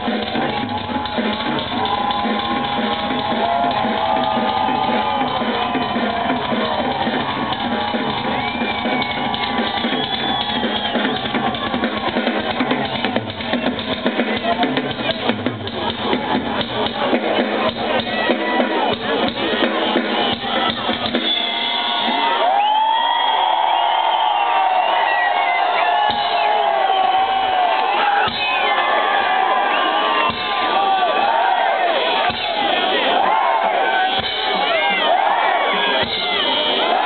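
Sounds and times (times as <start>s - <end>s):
drum kit solo: 0.0s - 22.8s, 23.4s - 28.7s, 30.2s - 31.0s, 34.0s - 35.1s, 35.9s - 37.0s.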